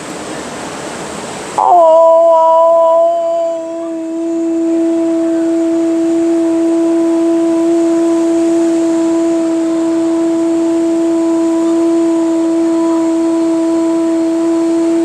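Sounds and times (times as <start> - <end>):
woman holding a long note: 1.6 - 15.0.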